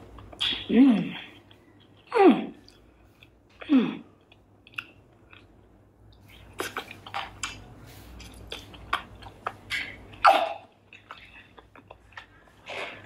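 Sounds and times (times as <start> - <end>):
person chewing and eating: 0.0 - 13.0.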